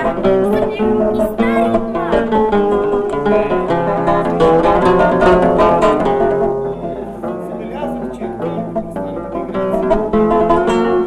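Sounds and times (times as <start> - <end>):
plucked string instruments: 0.0 - 11.0.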